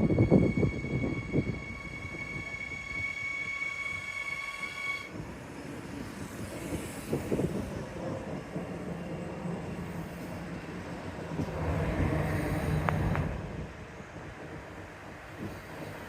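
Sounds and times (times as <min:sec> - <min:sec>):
train rumble and clatter: 0:00.0 - 0:16.0.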